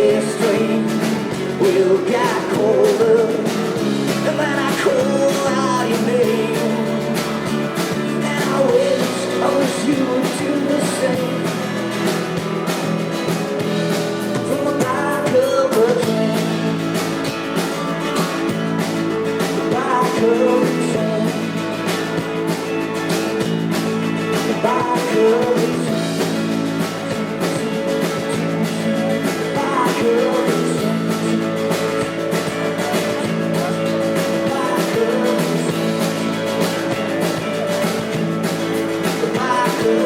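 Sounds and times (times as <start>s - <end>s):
drum beat: 0.0s - 40.0s
guitars: 0.0s - 40.0s
live rock band playing: 0.0s - 40.0s.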